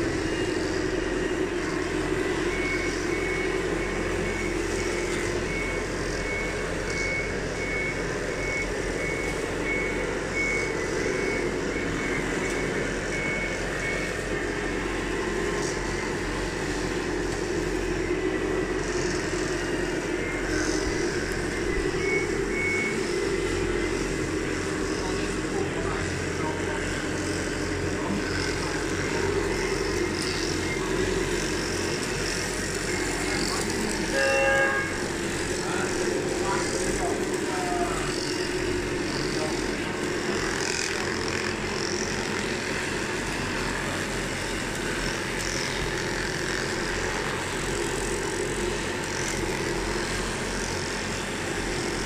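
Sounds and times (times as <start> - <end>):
reversing beeper: 0.0 - 44.3
engine-like drone: 0.0 - 52.0.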